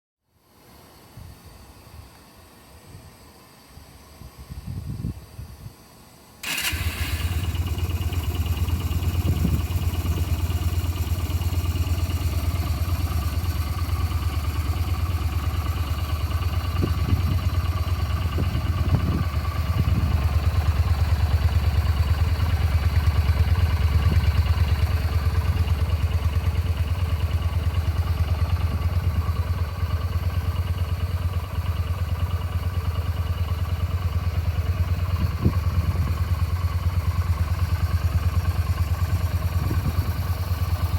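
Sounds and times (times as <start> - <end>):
motorcycle engine starting and idling: 6.4 - 40.9.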